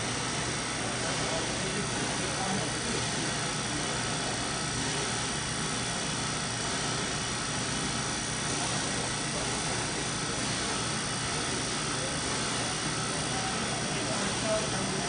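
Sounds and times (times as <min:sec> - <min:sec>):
machine hum and hiss: 0:00.0 - 0:15.0.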